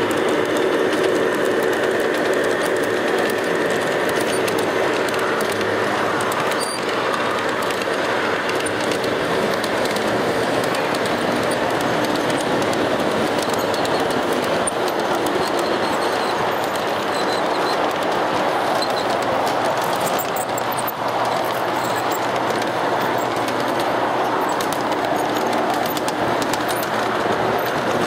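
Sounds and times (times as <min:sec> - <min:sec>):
model train wheels rumbling: 0:00.0 - 0:28.0
wheels clicking on rail joints: 0:00.0 - 0:28.0.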